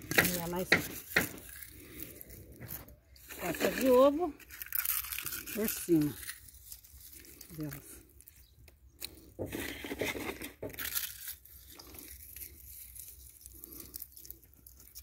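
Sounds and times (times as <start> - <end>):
eggshells crushed by hand: 0.0 - 15.0.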